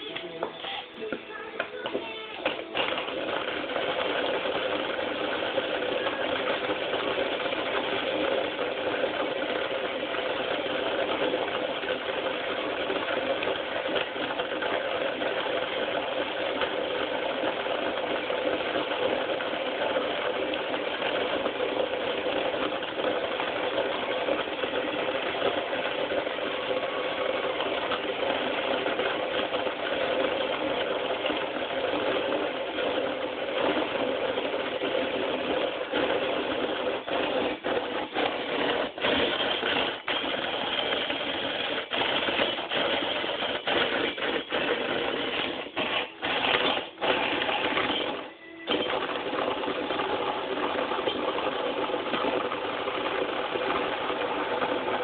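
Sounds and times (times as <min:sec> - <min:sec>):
drill driving coffee grinder: 0:01.3 - 0:55.0.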